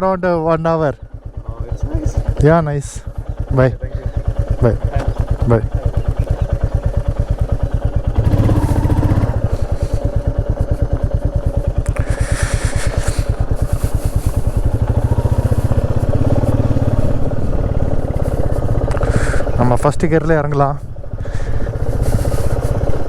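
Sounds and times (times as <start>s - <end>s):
motorcycle engine running: 0.4s - 23.0s.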